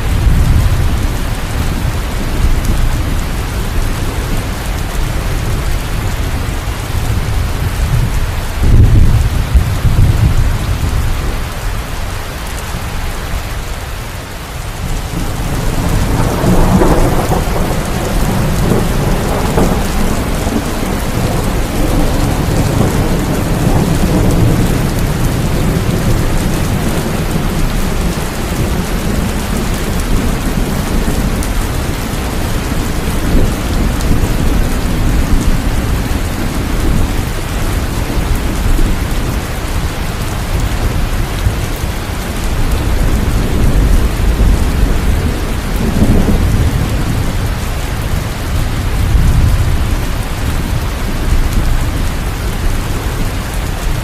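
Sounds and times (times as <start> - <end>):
rolling thunder: 0.0 - 11.5, 14.8 - 54.0
steady rain: 0.0 - 54.0.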